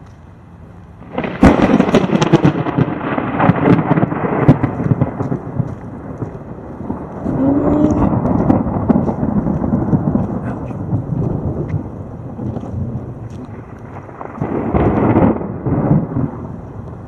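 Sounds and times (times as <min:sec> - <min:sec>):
close thunder crack and rumble: 0:01.0 - 0:17.0.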